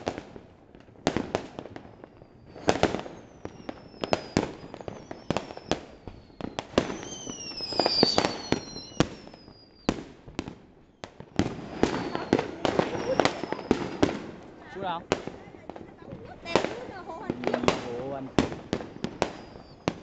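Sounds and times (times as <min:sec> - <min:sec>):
fireworks and firecrackers bursting: 0:00.0 - 0:20.0
whistling fireworks: 0:00.0 - 0:20.0.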